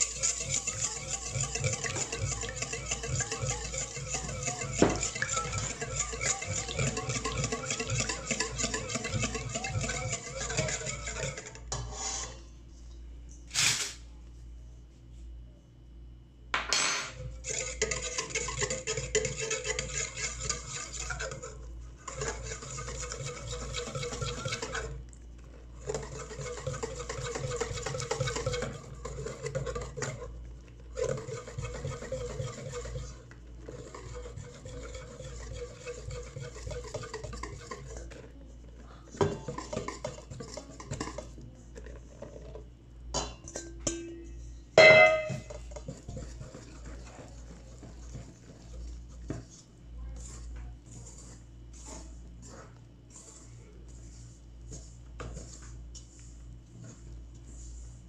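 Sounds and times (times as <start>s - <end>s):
whisk scraping metal bowl: 0.0s - 12.4s, 17.1s - 43.7s, 44.8s - 58.0s.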